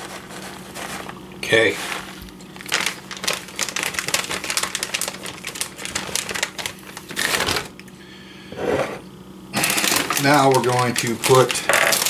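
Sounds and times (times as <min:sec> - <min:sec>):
plastic bag crinkling: 0:00.0 - 0:07.8, 0:09.6 - 0:12.0.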